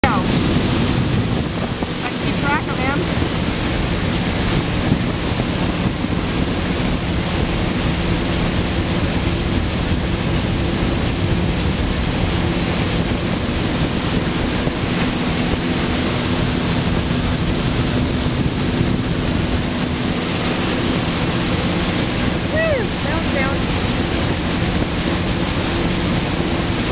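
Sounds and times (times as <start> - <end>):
boat engine drone: 0.0 - 26.9
churning wake water: 0.0 - 26.9
wind buffeting microphone: 0.0 - 26.9.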